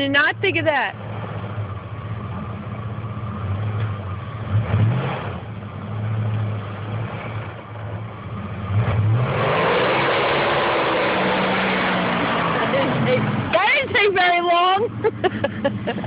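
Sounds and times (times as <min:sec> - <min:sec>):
van engine revving under load: 0:00.0 - 0:16.0.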